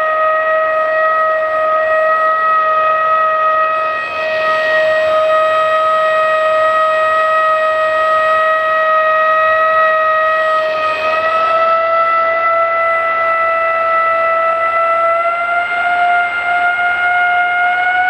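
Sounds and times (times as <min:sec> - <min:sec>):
siren steady tone: 0:00.0 - 0:18.0.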